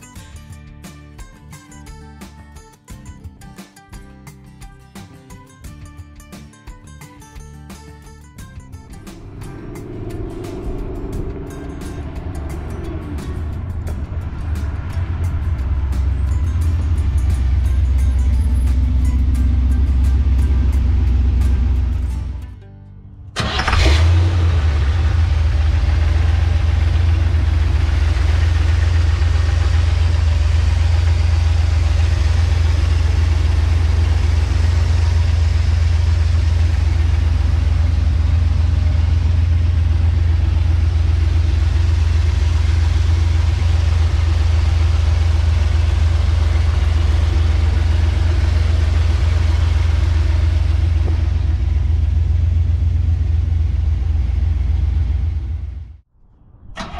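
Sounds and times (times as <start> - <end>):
truck engine idling: 7.6 - 56.0.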